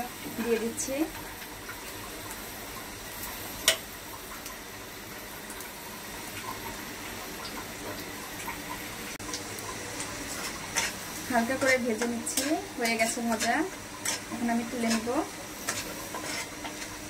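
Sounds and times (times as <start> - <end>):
nuts sizzling in hot fat: 0.0 - 17.0.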